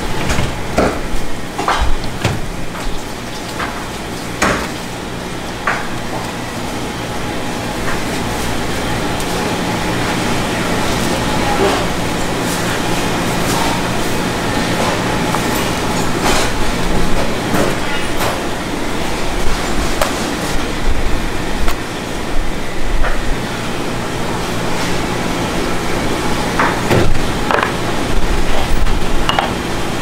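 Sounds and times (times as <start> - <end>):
machinery rumbling with low hum: 0.0 - 30.0.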